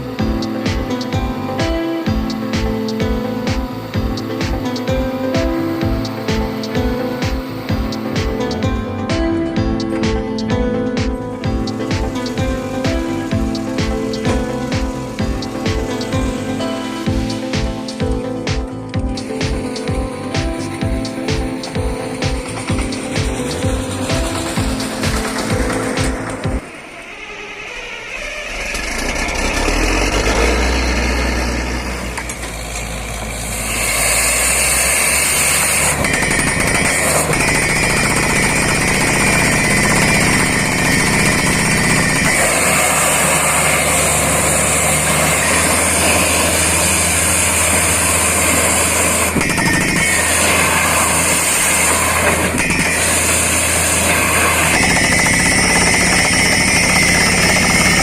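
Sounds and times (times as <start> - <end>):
air compressor hiss: 0.0 - 27.5, 28.9 - 58.0
drilling rig running: 0.0 - 58.0.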